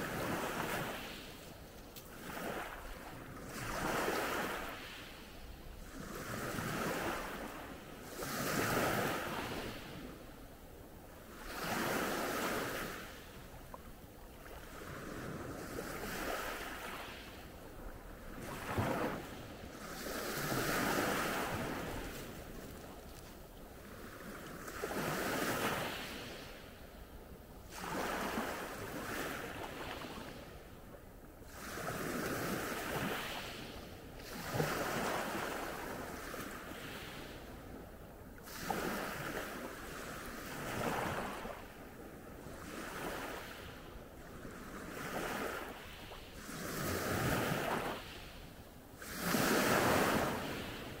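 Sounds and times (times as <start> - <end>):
small waves breaking on shore: 0.0 - 51.0.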